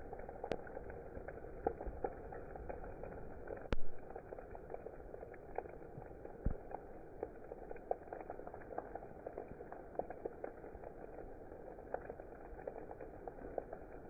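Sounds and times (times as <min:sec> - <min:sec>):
raindrops ticking on hard surface: 0:00.0 - 0:14.0
steady rain: 0:00.0 - 0:14.0.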